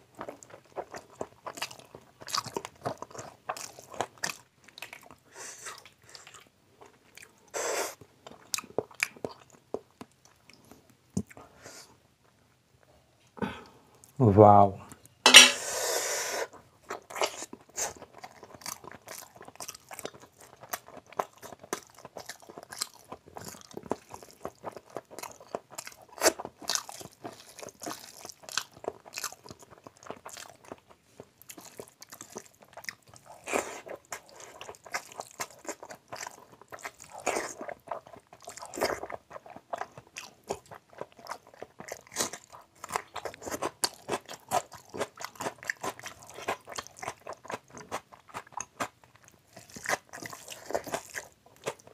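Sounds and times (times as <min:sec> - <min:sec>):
man chewing food: 0:00.0 - 0:12.4, 0:14.9 - 0:51.9.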